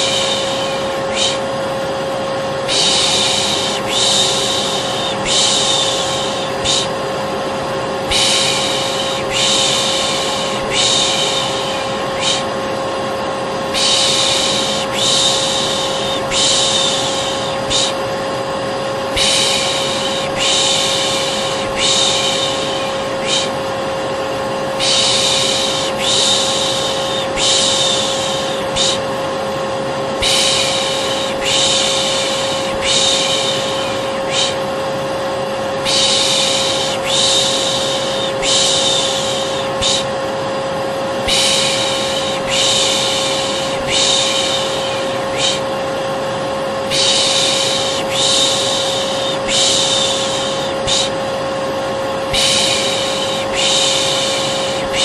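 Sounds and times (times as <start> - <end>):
person shushing: 0.0 - 7.0, 8.1 - 12.6, 13.7 - 18.1, 19.1 - 23.7, 24.7 - 29.1, 30.2 - 34.8, 35.8 - 40.2, 41.2 - 45.8, 46.8 - 51.3, 52.3 - 55.0
vacuum cleaner hum: 0.0 - 55.0.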